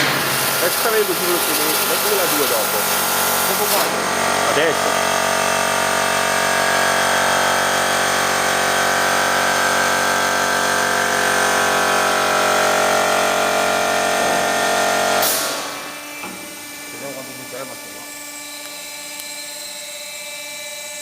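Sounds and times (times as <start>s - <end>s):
band saw whining: 0.0s - 21.0s.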